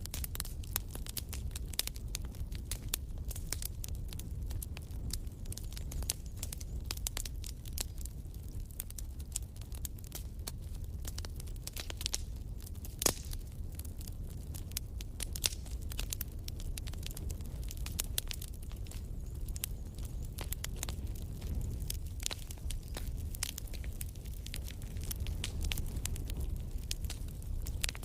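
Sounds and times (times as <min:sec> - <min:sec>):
fire crackling in fireplace: 0:00.0 - 0:28.0
fire popping loudly: 0:00.0 - 0:28.0.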